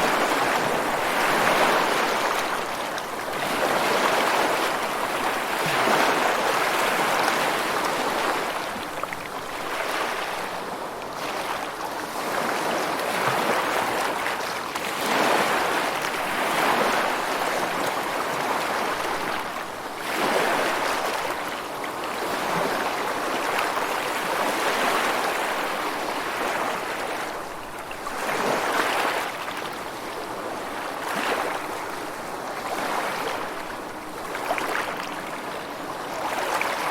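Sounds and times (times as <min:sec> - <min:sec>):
rushing water: 0:00.0 - 0:36.9.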